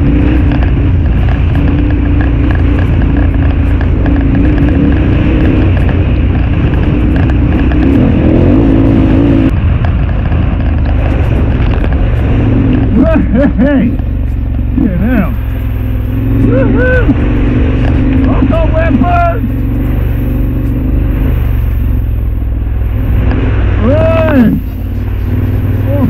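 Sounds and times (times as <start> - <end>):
motorcycle engine running: 0.0 - 26.0
wind rumble on microphone: 0.0 - 26.0.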